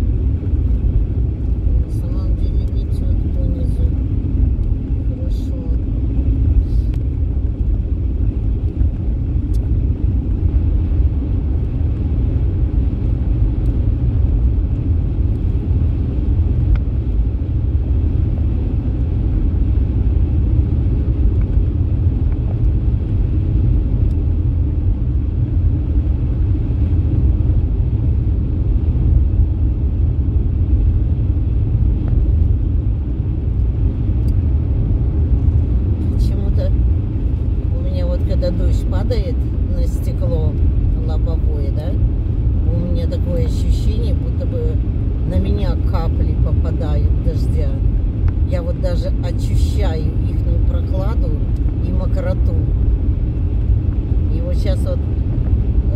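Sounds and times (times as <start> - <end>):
car interior road rumble: 0.0 - 55.9.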